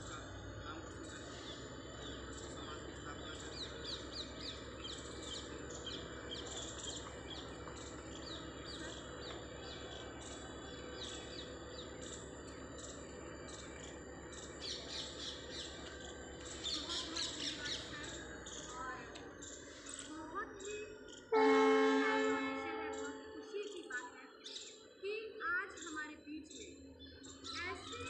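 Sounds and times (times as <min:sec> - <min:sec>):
small birds chirping: 0:00.0 - 0:21.4, 0:22.2 - 0:28.0.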